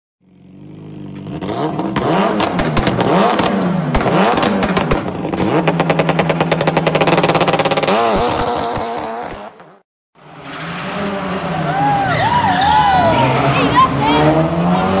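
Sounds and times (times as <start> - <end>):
vehicle engine revving: 0.2 - 15.0.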